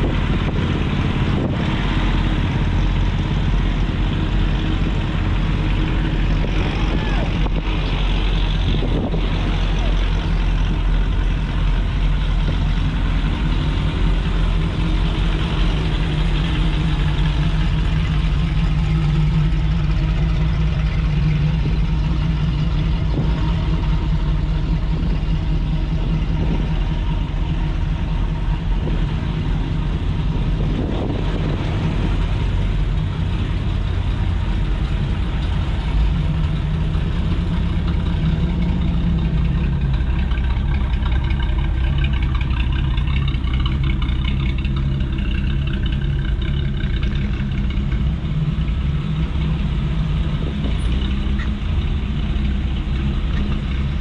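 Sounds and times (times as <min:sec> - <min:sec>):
car engines running: 0:00.0 - 0:54.0.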